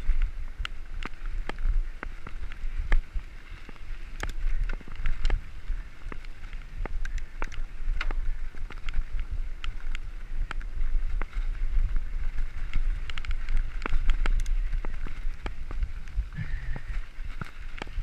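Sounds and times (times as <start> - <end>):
bike clicks and rattles: 0.0 - 18.0
tyres rumbling on gravel: 0.0 - 18.0
wind on microphone: 0.0 - 18.0.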